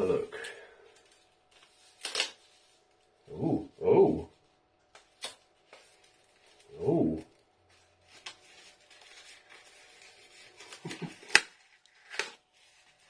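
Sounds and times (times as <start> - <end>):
card and paper rustling: 0.0 - 13.0.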